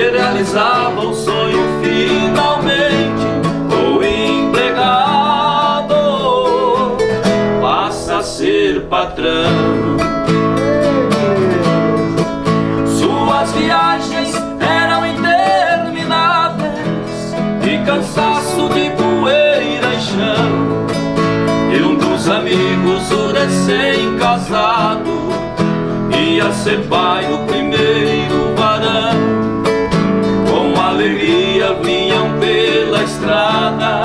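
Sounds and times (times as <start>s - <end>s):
nylon-string acoustic guitars playing: 0.0s - 34.0s.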